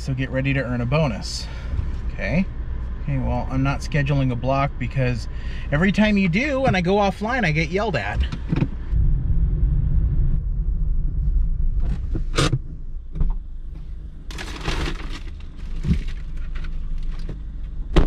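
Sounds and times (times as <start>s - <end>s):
road and engine rumble in car: 0.0s - 18.0s.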